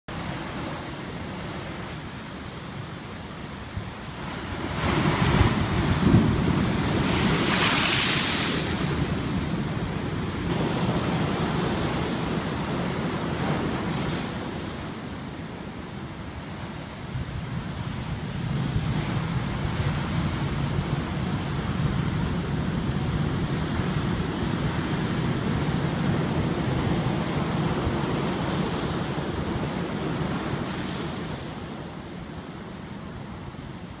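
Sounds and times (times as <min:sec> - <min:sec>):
ocean surf crashing over rocks: 0:00.1 - 0:34.0.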